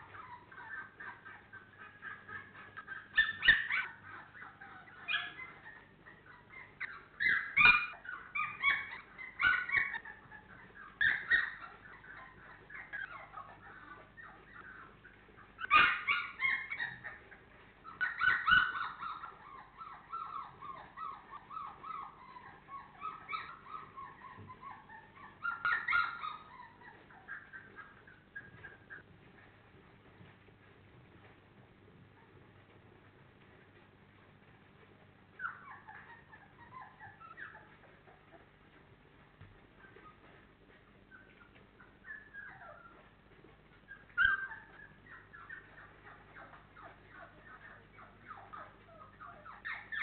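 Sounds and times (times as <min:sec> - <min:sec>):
puppies whimpering and yipping: 0:00.0 - 0:29.5, 0:31.3 - 0:50.0.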